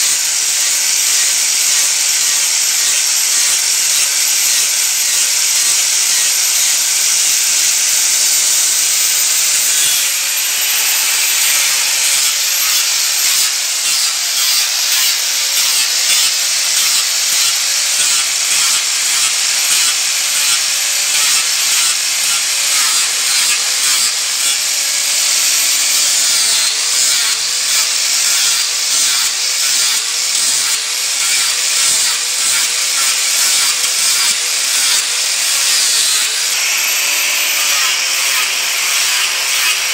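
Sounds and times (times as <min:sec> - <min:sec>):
angle grinder grinding wood: 0:00.0 - 0:39.9.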